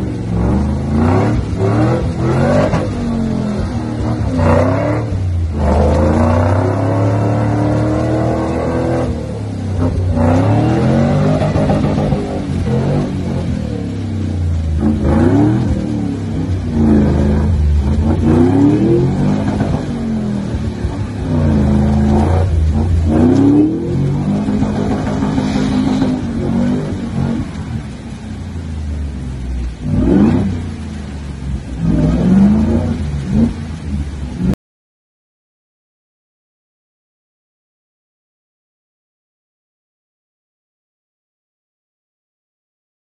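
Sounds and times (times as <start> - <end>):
off-road engine revving: 0.0 - 34.6
wheels churning through mud and water: 0.0 - 34.6.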